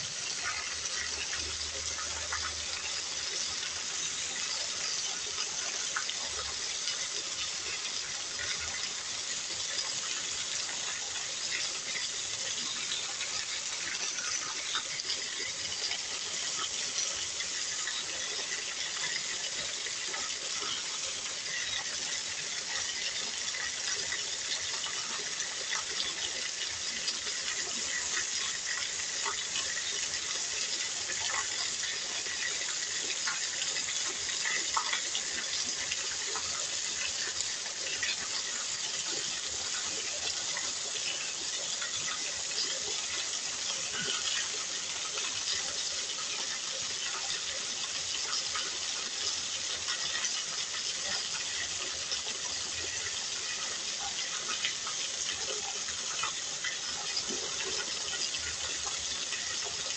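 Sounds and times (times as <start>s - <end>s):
runoff pouring off roof edge: 0.0s - 59.9s
splashes and drips: 0.0s - 59.9s.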